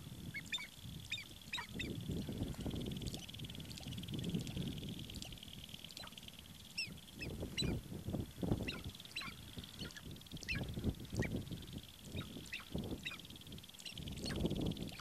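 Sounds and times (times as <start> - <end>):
grouse clipped calls: 0.2 - 15.0.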